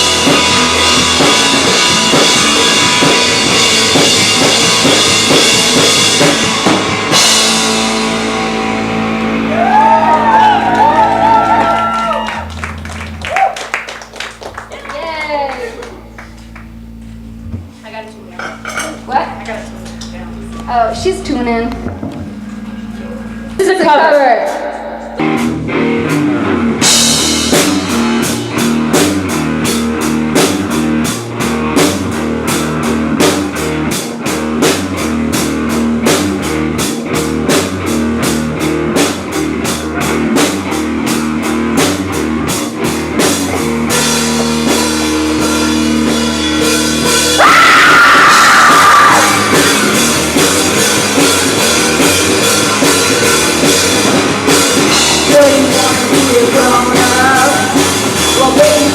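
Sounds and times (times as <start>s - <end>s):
drum kit fast beat: 0.0s - 14.6s, 23.7s - 58.9s
rock band playing live: 0.0s - 14.9s, 20.6s - 58.9s
loud high guitar line: 0.0s - 17.0s, 20.6s - 58.9s.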